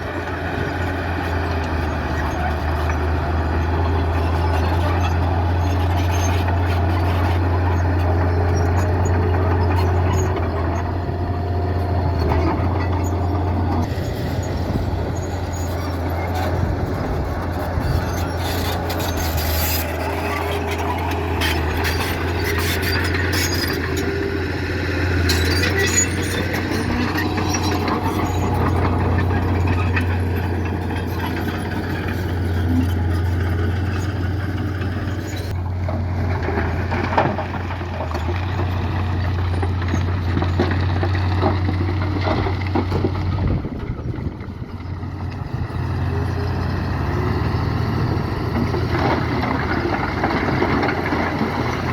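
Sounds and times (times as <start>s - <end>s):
heavy diesel machinery rumbling: 0.0s - 51.9s.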